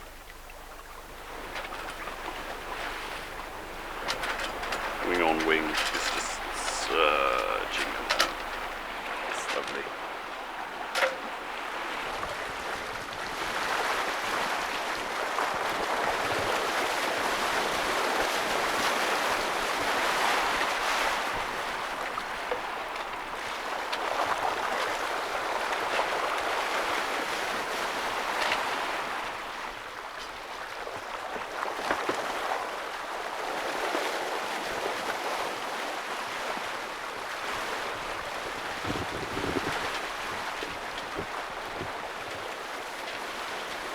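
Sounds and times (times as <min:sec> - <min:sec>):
water rushing past boat hull: 0:00.0 - 0:43.9
wind: 0:00.0 - 0:43.9.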